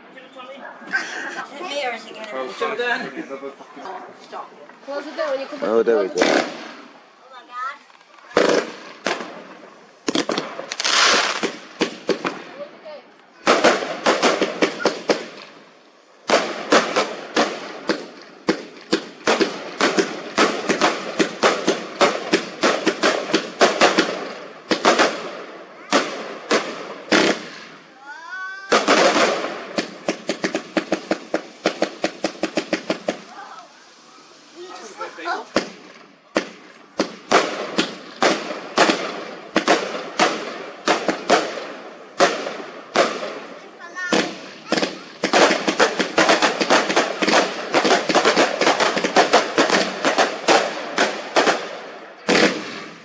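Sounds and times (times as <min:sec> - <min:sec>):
firework bangs: 0:04.9 - 0:53.0
firework crackling burst: 0:04.9 - 0:53.0
rapid string of firework cracks: 0:05.0 - 0:12.7, 0:13.4 - 0:53.0.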